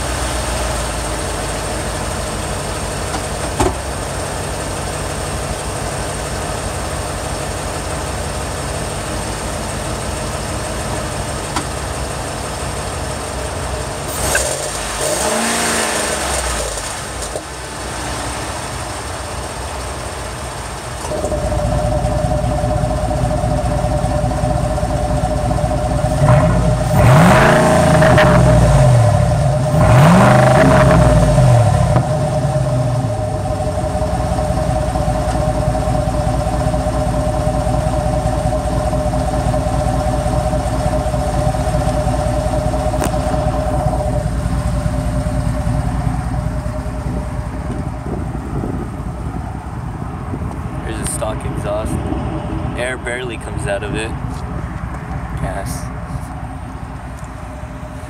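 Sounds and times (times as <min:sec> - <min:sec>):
truck engine idling and revving: 0:00.0 - 0:58.0.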